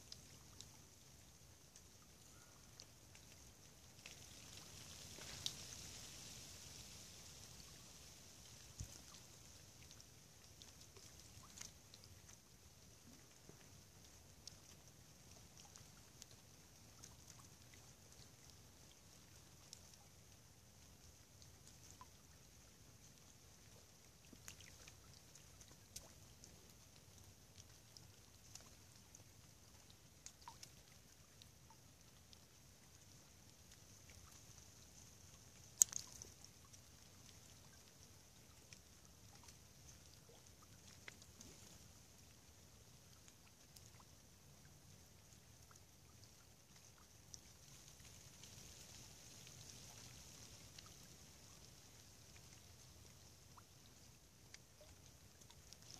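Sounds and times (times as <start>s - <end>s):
faint steady hiss: 0.0s - 55.9s
soft ticks: 0.0s - 55.9s.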